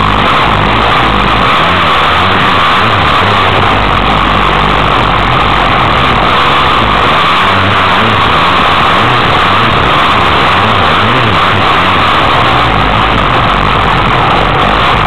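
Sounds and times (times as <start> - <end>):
dirt bike engine revving: 0.0 - 15.0
track noise: 0.0 - 15.0.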